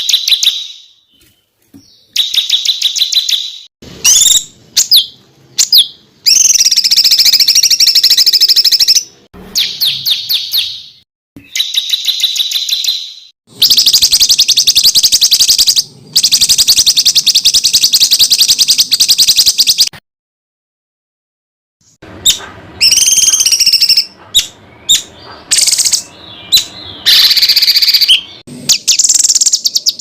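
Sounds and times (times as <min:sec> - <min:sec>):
songbird whistles and trills: 0:00.0 - 0:19.9, 0:22.2 - 0:30.0.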